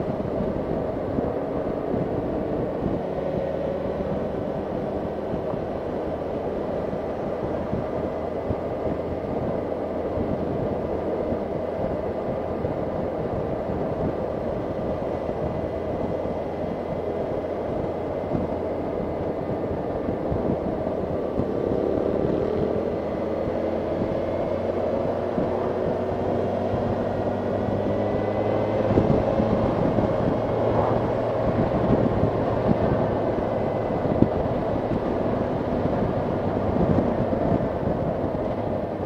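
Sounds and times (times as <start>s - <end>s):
motorcycle engine running: 0.0s - 39.0s
wind rushing past: 0.0s - 39.0s.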